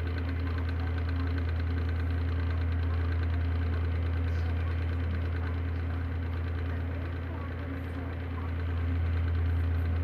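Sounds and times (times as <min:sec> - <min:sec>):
electric fan humming: 0:00.0 - 0:10.0
fan knocking rattle: 0:00.0 - 0:10.0.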